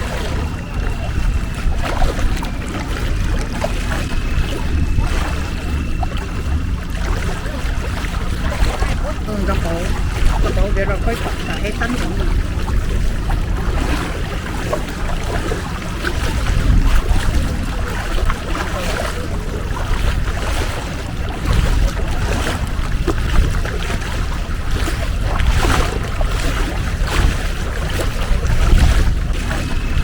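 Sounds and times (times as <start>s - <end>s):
boat engine droning: 0.0s - 30.0s
rushing wind: 0.0s - 30.0s
water noise: 0.0s - 30.0s.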